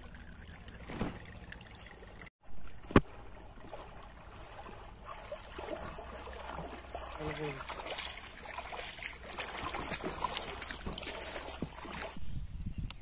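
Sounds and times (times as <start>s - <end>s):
river water trickling and lapping: 0.0s - 12.3s.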